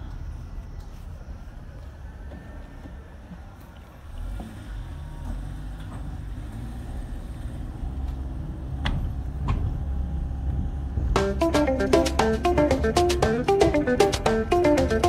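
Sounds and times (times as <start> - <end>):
car engine and road rumble: 0.0 - 13.7.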